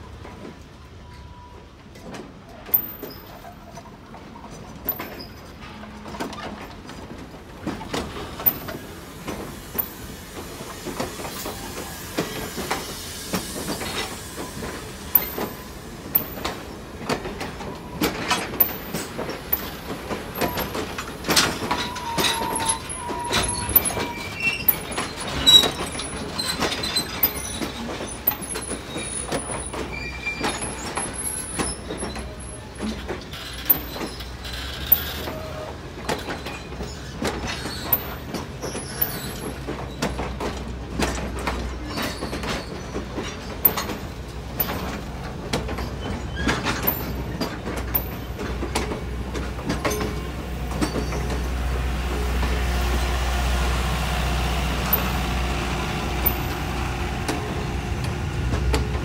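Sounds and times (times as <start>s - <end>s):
low train rumble: 0.0s - 59.0s
train wheels clicking and clanking: 0.0s - 59.0s.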